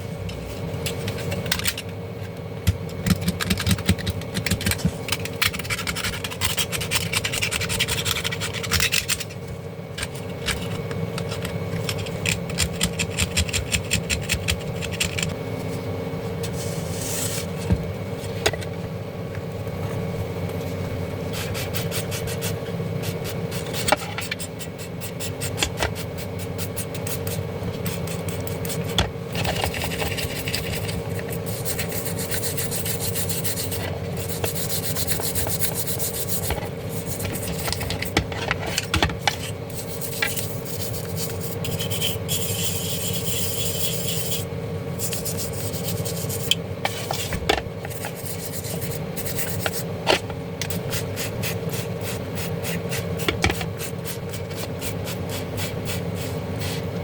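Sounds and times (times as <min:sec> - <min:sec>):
steady low hum: 0:00.0 - 0:57.0
hand scraping small parts: 0:03.1 - 0:09.4, 0:10.0 - 0:15.4, 0:21.3 - 0:57.0.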